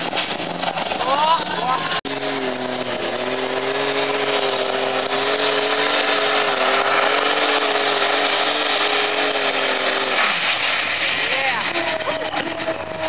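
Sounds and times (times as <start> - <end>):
tractor engine at full throttle: 0.0 - 13.0.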